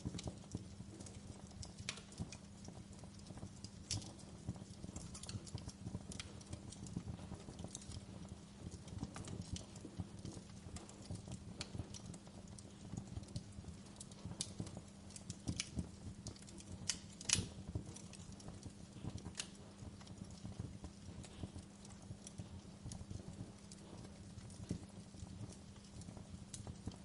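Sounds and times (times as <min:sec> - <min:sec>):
fireplace crackling: 0:00.0 - 0:27.0
low steady hum: 0:00.0 - 0:27.0.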